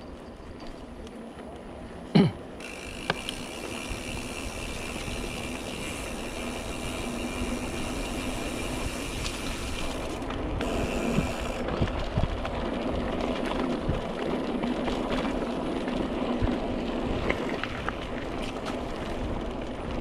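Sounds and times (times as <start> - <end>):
bike rattles and clicks: 0.0 - 20.0
bike tyres on gravel: 0.0 - 20.0
wind rumble on microphone: 3.4 - 20.0.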